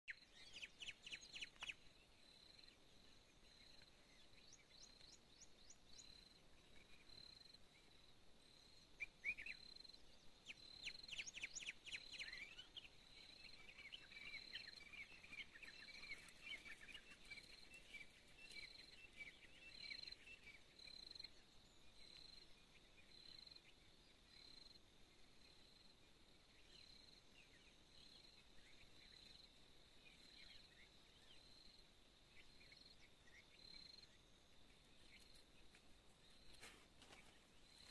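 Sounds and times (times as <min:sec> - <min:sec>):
birds chirping and twittering: 0:00.1 - 0:37.9
cricket chirping: 0:00.1 - 0:37.9.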